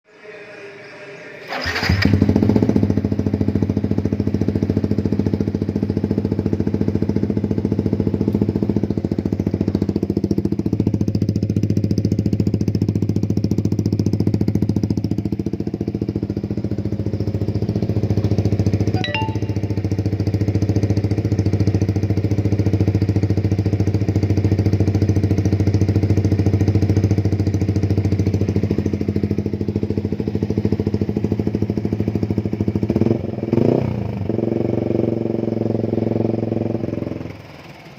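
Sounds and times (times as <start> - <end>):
motorcycle engine idling: 1.5 - 19.0, 19.7 - 33.5, 34.2 - 37.9.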